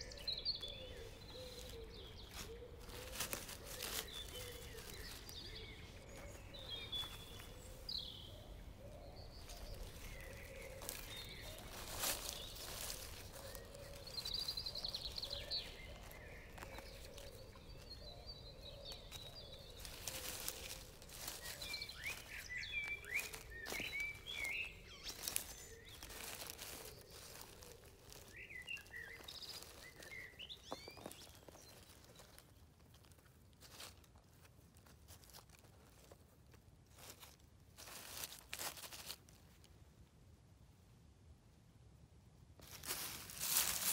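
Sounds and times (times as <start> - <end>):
small birds chirping: 0.0 - 39.7, 42.6 - 43.9
dry leaves and twigs rustling: 0.0 - 39.9, 42.6 - 43.9.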